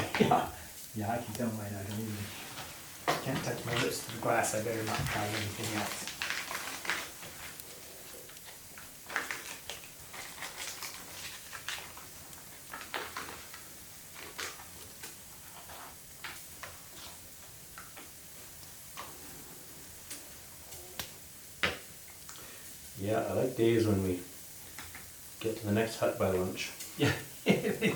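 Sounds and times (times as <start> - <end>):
faint steady hiss: 0.0 - 27.9
wood fire crackling: 0.0 - 27.9.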